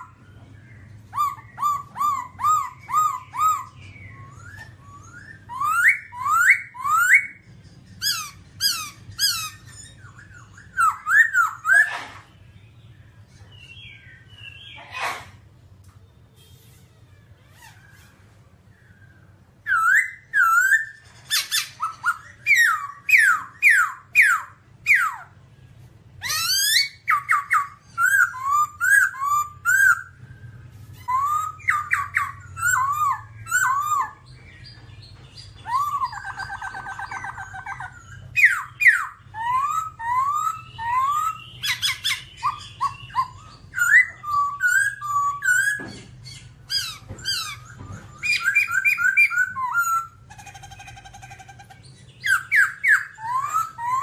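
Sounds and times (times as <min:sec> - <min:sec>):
bird singing whistled phrases: 0:00.0 - 0:12.1, 0:18.7 - 0:25.4, 0:26.2 - 0:50.2, 0:52.2 - 0:54.0.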